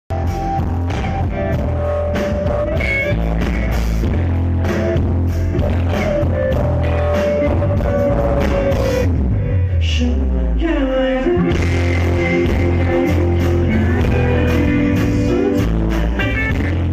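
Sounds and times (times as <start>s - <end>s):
bass guitar: 0.0s - 16.9s
drum kit: 0.1s - 10.1s, 11.2s - 16.9s.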